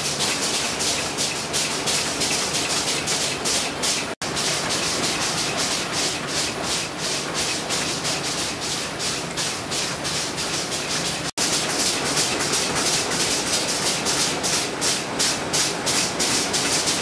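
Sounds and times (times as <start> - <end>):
bag-making machine running: 0.0 - 17.0.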